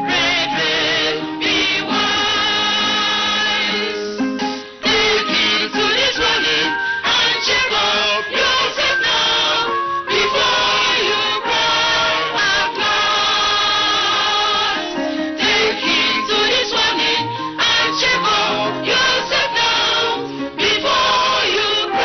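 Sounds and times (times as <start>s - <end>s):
choir singing gospel: 0.0s - 22.0s
instrumental backing: 0.0s - 22.0s.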